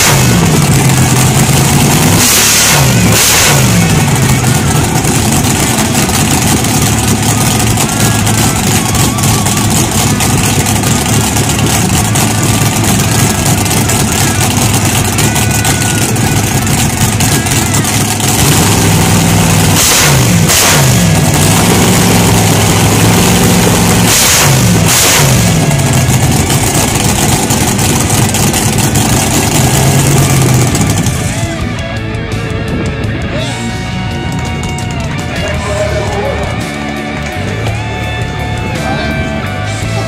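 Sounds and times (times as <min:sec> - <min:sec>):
dragster engine idling loudly: 0:00.0 - 0:40.0
engine throttle blips: 0:00.0 - 0:40.0.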